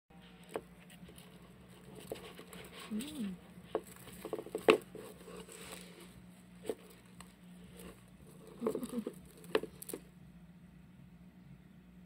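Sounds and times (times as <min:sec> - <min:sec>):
faint low hum: 0:00.1 - 0:12.0.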